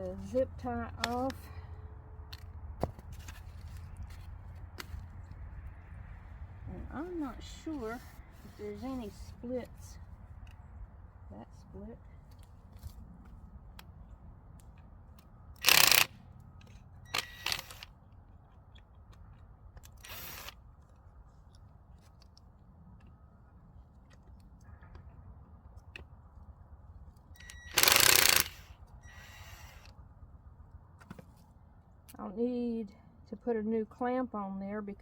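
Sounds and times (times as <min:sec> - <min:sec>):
low steady rumble: 0:00.0 - 0:35.0.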